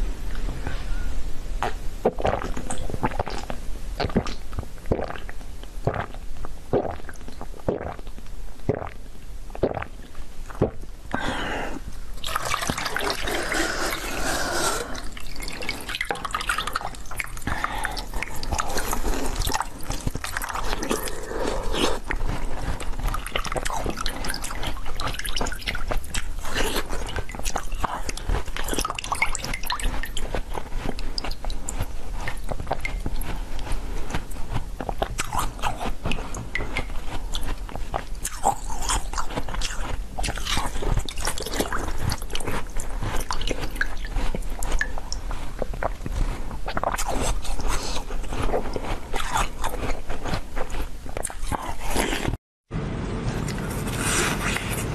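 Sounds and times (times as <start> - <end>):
wet clicking mouth sounds: 1.6 - 10.8, 15.6 - 52.3
biting and chewing jelly: 1.6 - 52.4.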